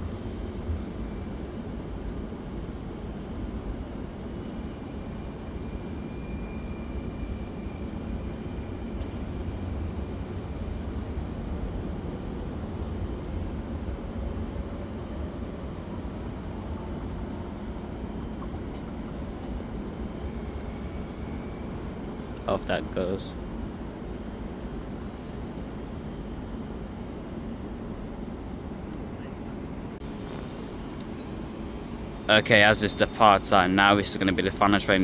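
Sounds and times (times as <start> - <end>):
faint high whine: 0.0 - 35.0.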